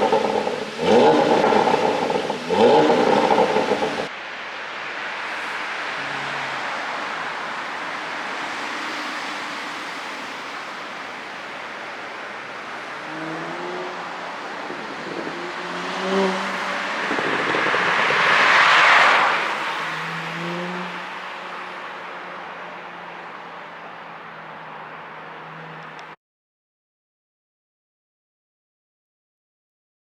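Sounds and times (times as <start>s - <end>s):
car engine and exhaust: 0.0s - 26.2s
road noise: 0.0s - 26.2s.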